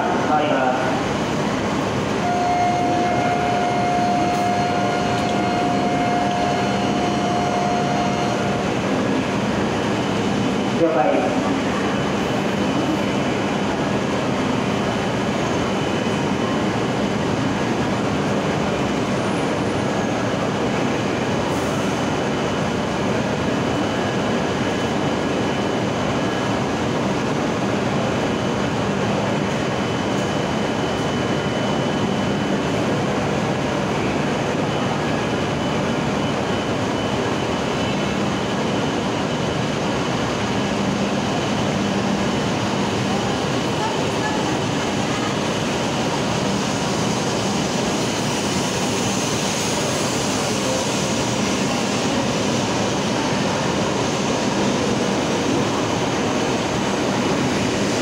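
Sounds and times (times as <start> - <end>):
station hall noise: 0.0 - 58.0
train equipment humming and whirring: 0.0 - 58.0.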